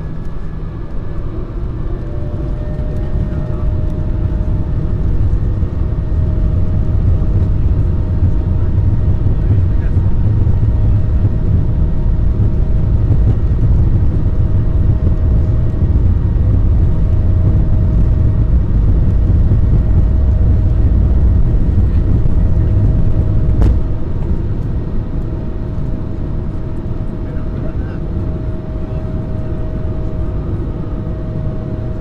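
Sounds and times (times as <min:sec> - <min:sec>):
aircraft cabin engine rumble: 0:00.0 - 0:32.0
faint steady hum: 0:00.0 - 0:32.0.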